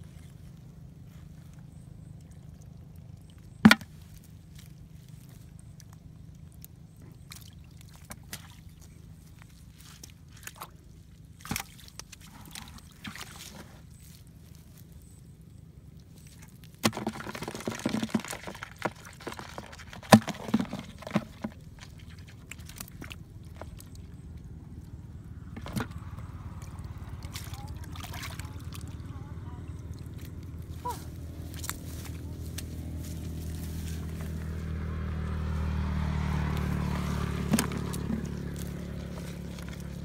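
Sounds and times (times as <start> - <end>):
muddy water sloshing and splashing: 0.0 - 40.0.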